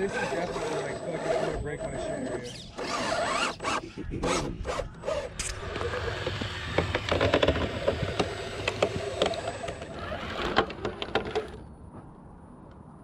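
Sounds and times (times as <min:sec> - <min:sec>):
electric motor whining: 0:00.0 - 0:11.6.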